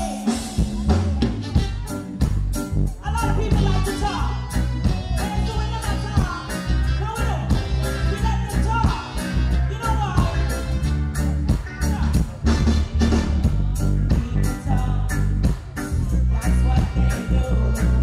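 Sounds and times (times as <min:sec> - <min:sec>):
heavy bass: 0:00.0 - 0:18.0
live reggae band: 0:00.0 - 0:18.0
steady drum beat: 0:00.0 - 0:18.0.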